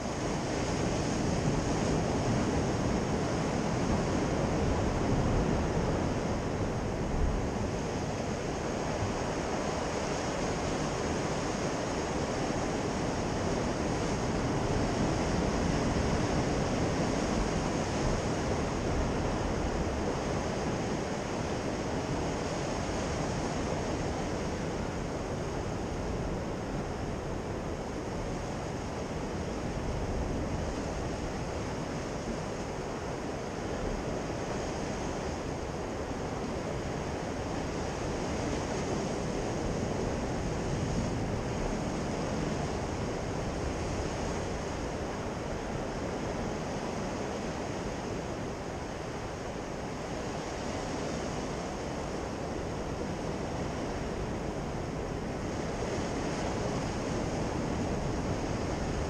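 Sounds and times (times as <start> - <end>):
sea surf on rocky shore: 0.0 - 59.0.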